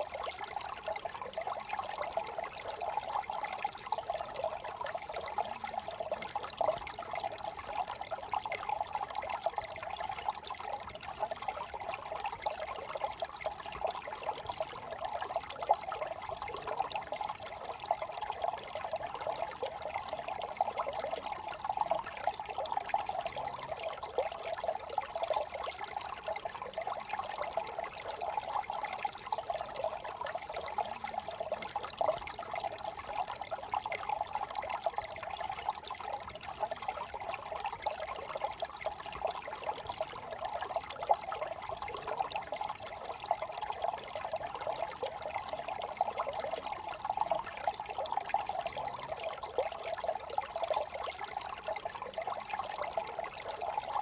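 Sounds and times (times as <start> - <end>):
brook trickling over stones: 0.0 - 54.0.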